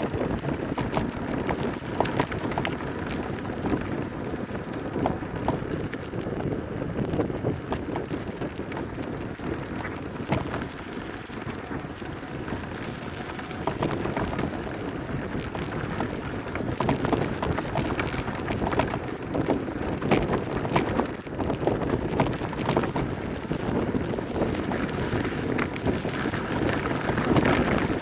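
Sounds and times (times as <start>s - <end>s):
bicycle tyres on dirt trail: 0.0s - 28.0s
bike rattles and clicks: 0.0s - 28.0s
wind on microphone: 0.0s - 28.0s.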